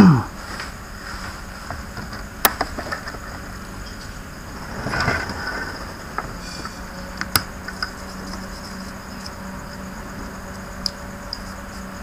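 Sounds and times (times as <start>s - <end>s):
faint hum and hiss: 0.0s - 12.0s.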